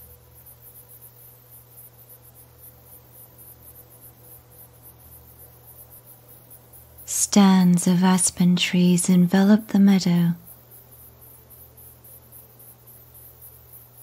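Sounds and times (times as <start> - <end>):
insects chirping: 0.0 - 14.0
low steady hum: 0.0 - 14.0.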